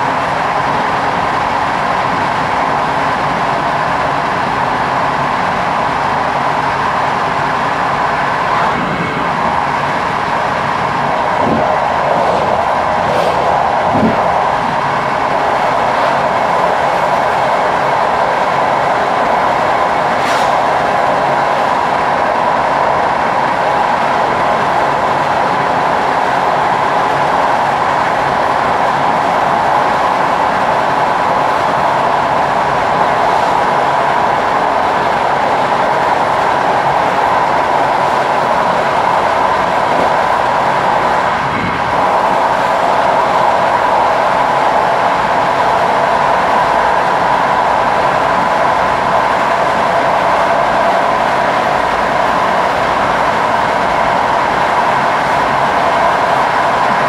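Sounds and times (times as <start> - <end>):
train rolling on rails: 0.0 - 57.0.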